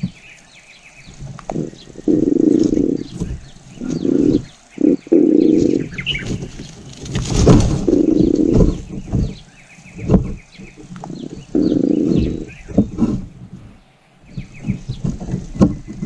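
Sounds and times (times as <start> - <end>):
low bird call: 0.0 - 16.0.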